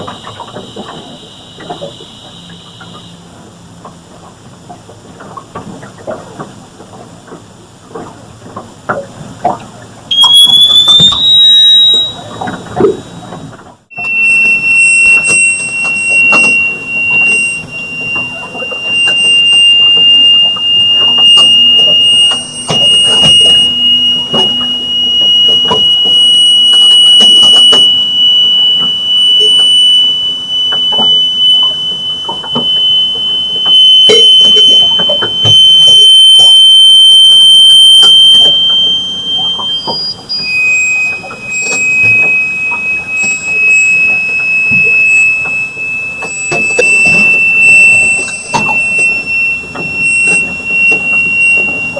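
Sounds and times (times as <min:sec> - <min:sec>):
piercing high-pitched whine: 0:00.0 - 0:51.9.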